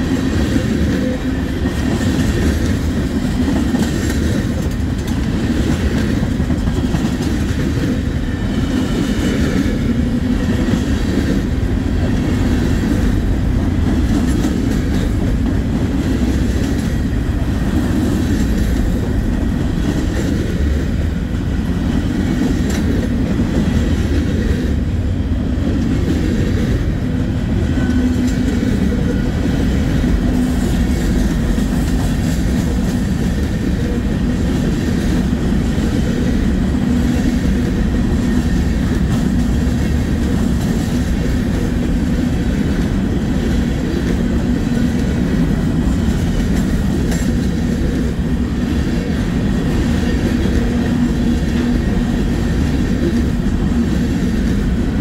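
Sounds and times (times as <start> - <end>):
freight train rolling past: 0.0 - 55.0.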